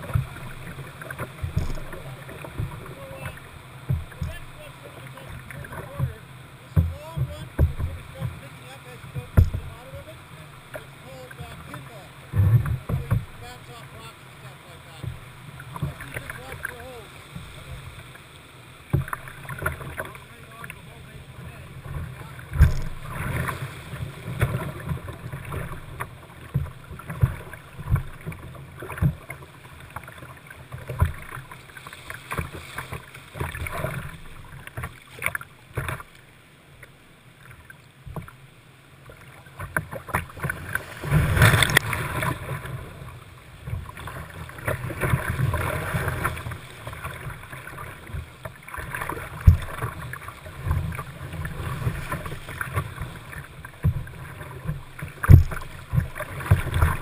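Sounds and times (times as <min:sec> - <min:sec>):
paddle strokes splashing: 0:00.0 - 0:57.0
water slapping hull: 0:00.0 - 0:57.0.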